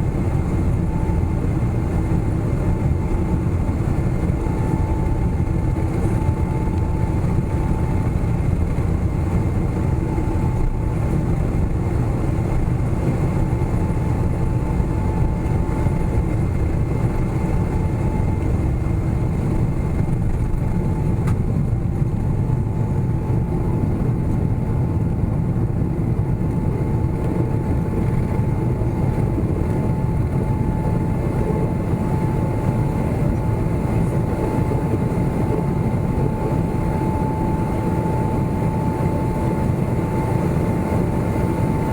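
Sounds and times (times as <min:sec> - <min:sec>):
faint engine whine: 0:00.0 - 0:41.9
jet engine cabin rumble: 0:00.0 - 0:41.9.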